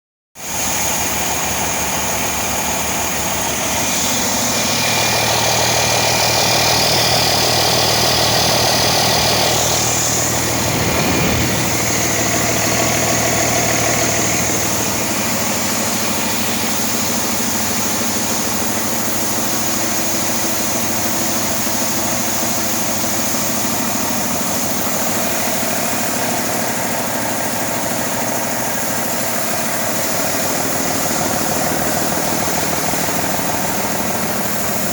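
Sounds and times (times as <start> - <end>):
diesel engine idling: 0.5 - 34.9.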